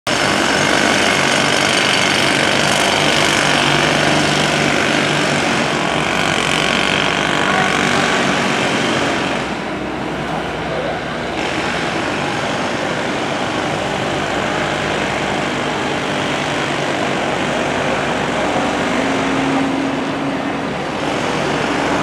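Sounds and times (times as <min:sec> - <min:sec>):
construction work din: 0:00.1 - 0:22.0.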